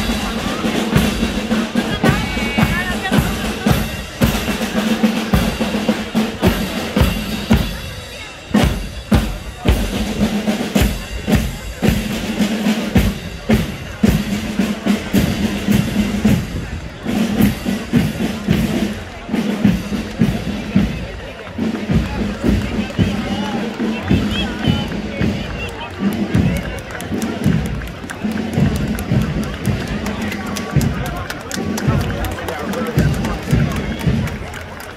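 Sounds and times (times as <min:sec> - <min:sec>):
crowd chatter: 0:00.0 - 0:34.9
marching band drums: 0:00.0 - 0:34.9.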